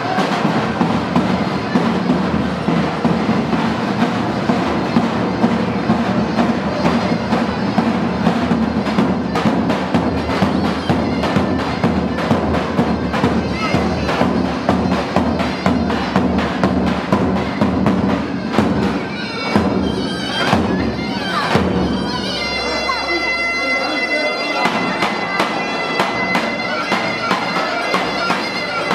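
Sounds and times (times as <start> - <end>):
shrill reed pipe: 0.0 - 28.9.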